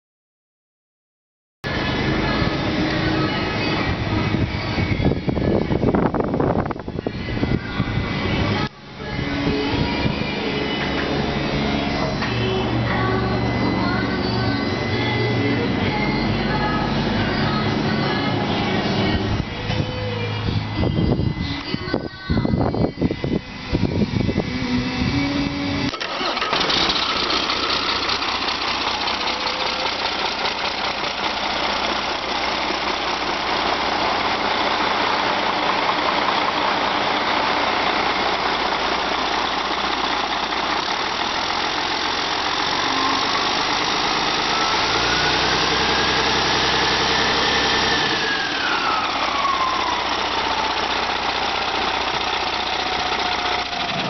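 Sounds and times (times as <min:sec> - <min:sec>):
diesel truck engine running: 0:01.6 - 0:54.0
high whine: 0:01.7 - 0:54.0.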